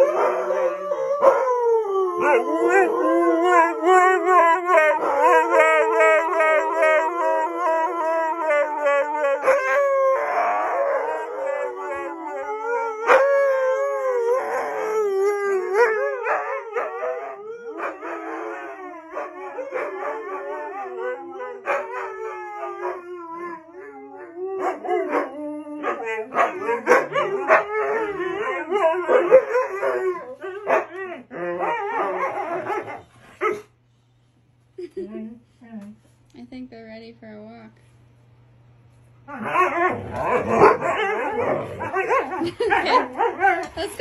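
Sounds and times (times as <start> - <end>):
dogs howling together: 0.0 - 33.7, 39.2 - 43.8.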